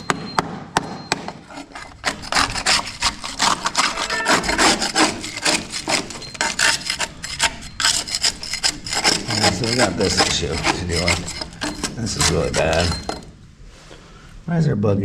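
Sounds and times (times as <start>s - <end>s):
scraping on metal sill: 1.2s - 13.4s.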